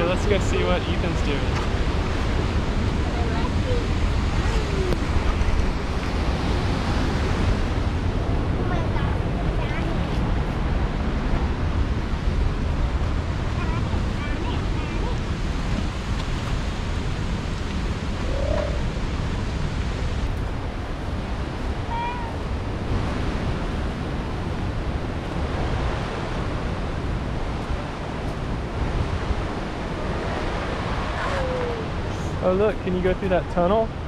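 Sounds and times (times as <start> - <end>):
fast-flowing water rushing: 0.0 - 34.0.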